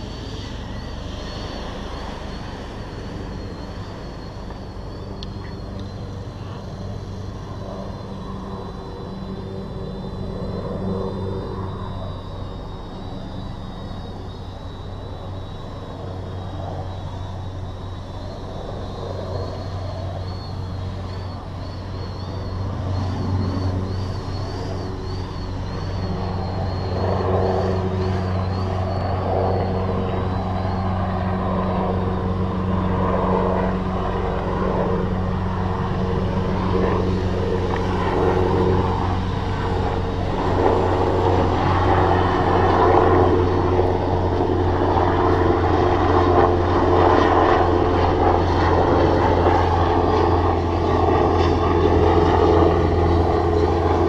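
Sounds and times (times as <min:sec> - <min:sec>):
faint wavering high whine: 0:00.0 - 0:54.0
quadcopter motors droning: 0:00.0 - 0:54.0.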